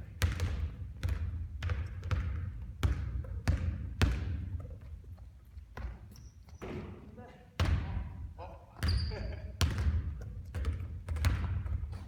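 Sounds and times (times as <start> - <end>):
basketball bouncing on a court: 0.0 - 6.9, 7.6 - 8.2, 8.8 - 12.0.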